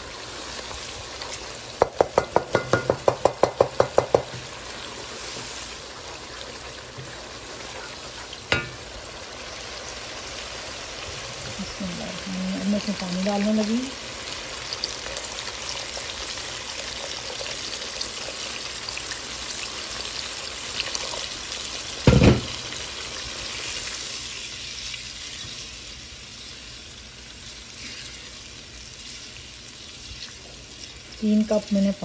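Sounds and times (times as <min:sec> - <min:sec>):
masala sizzling in a pan: 0:00.0 - 0:32.0.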